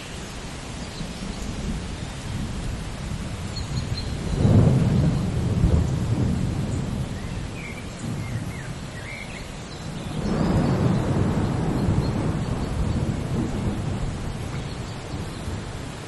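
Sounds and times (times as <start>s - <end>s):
steady rain: 0.0s - 16.0s
rolling thunder: 1.2s - 9.2s, 9.8s - 16.0s.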